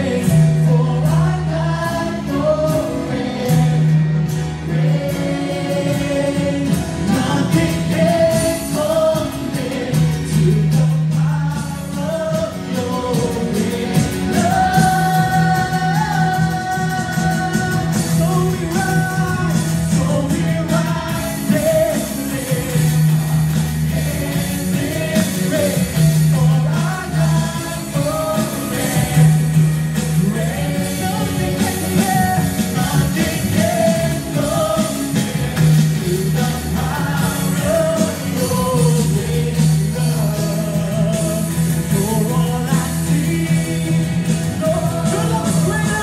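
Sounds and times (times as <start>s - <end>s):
voices singing: 0.0s - 46.0s
worship band playing: 0.0s - 46.0s.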